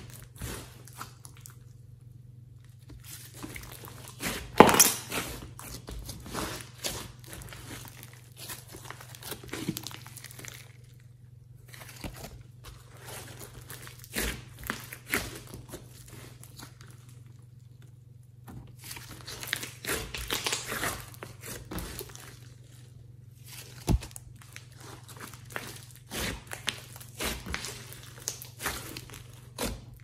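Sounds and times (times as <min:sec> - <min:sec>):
hands squishing slime: 0:00.0 - 0:02.0, 0:02.7 - 0:17.4, 0:18.7 - 0:30.0.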